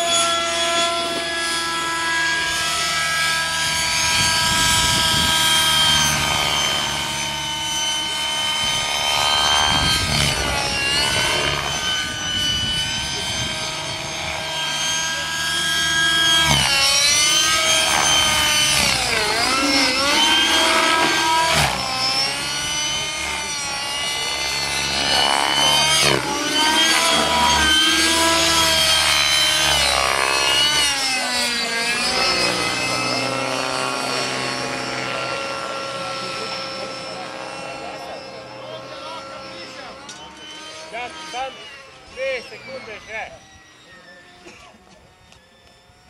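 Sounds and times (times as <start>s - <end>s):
model helicopter engine whining: 0.0s - 46.0s.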